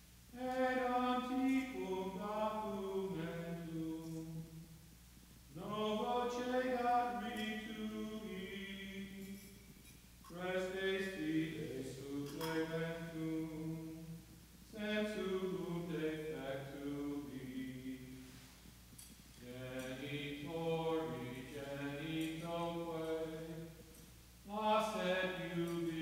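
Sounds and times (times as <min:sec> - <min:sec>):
slow devotional singing: 0:00.3 - 0:26.0.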